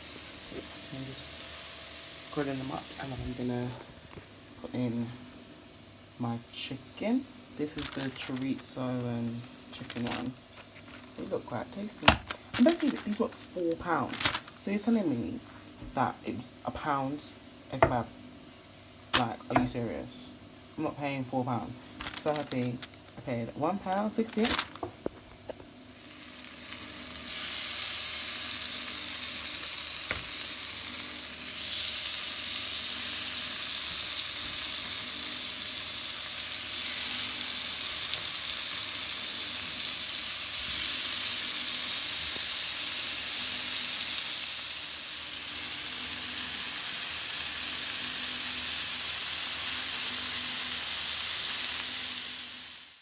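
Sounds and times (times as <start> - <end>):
meat and peppers sizzling in grill pan: 0.0 - 53.0.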